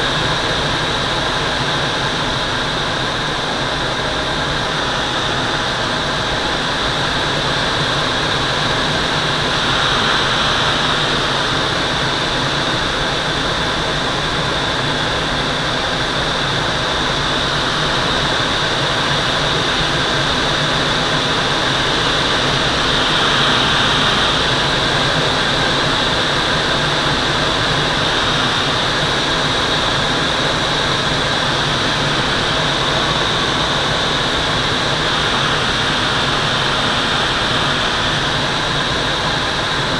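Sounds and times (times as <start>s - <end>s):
rush of air over glider canopy: 0.0s - 39.9s.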